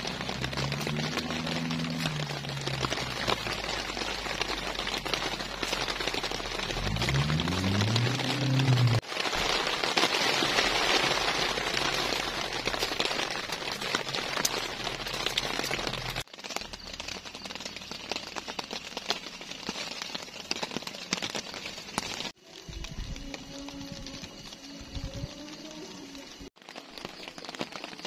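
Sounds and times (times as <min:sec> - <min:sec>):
water drips: 0:00.0 - 0:25.9
rain falling: 0:00.0 - 0:28.0.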